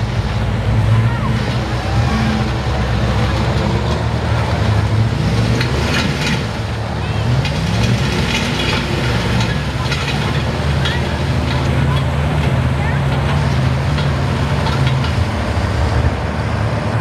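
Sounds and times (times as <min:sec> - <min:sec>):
people's voices: 0:00.0 - 0:15.3
truck engine revving: 0:00.0 - 0:17.0.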